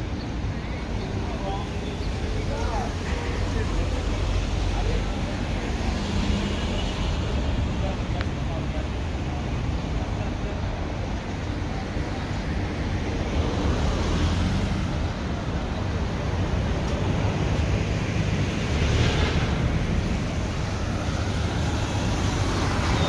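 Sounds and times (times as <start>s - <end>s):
passing traffic: 0.0s - 23.0s.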